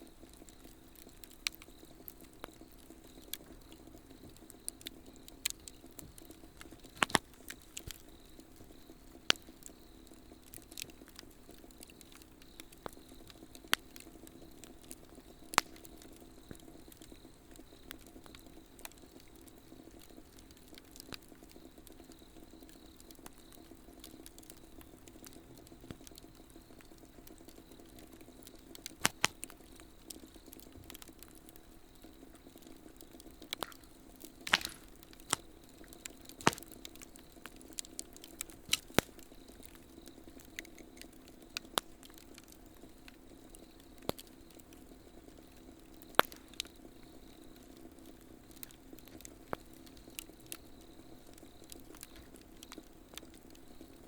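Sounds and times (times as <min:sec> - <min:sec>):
insects calling: 0:00.0 - 0:54.0
wood fire crackling and popping: 0:00.0 - 0:54.0.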